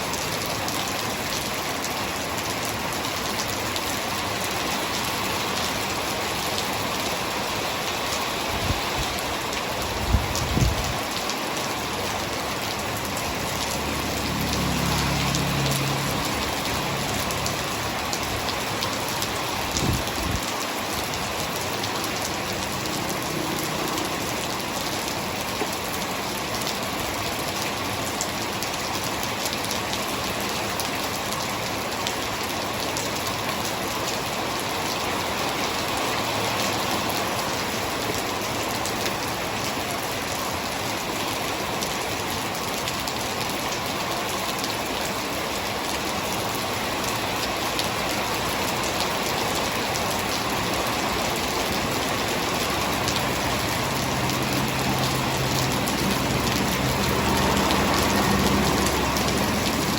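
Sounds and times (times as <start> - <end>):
heavy rain: 0.0 - 59.9
raindrops ticking on surfaces: 0.0 - 59.9.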